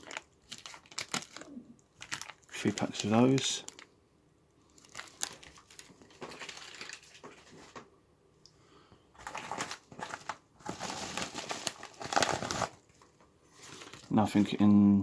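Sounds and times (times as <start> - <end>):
plastic bag crinkling: 0.0 - 4.0, 4.6 - 7.8, 9.2 - 14.6.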